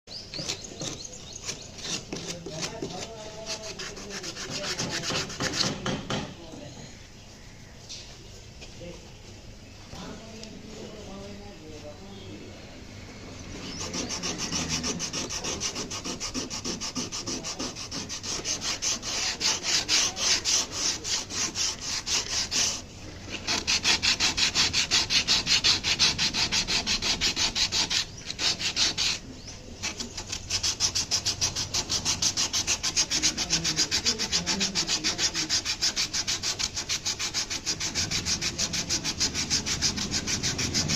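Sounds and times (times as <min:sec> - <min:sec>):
wood being sanded by hand: 0:00.2 - 0:06.4, 0:13.5 - 0:40.9.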